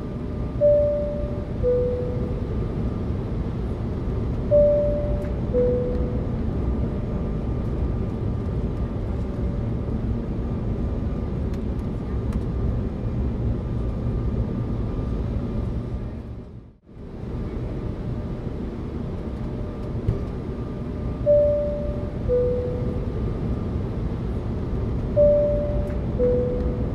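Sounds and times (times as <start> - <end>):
airliner cabin engine rumble: 0.0 - 26.9.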